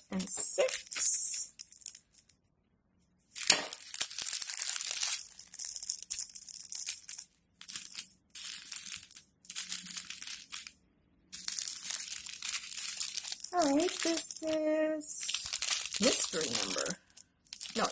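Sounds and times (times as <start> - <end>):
plastic bags crinkling: 0.0 - 2.3, 3.3 - 10.8, 11.4 - 17.9.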